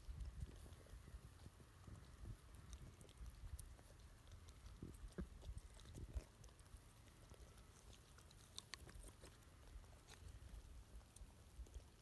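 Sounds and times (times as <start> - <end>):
chickens pecking: 0.0 - 12.0.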